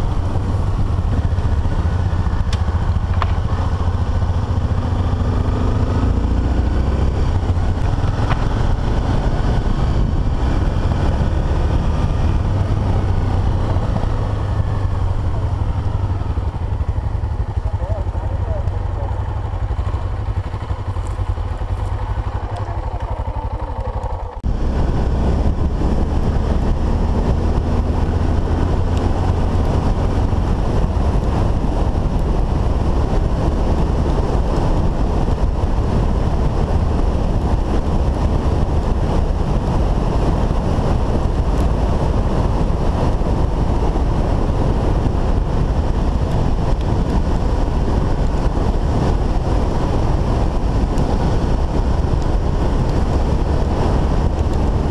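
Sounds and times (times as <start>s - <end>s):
engine and tyres rumbling: 0.0s - 54.9s
motorcycle engine running: 0.0s - 54.9s
wind rushing on microphone: 0.0s - 54.9s.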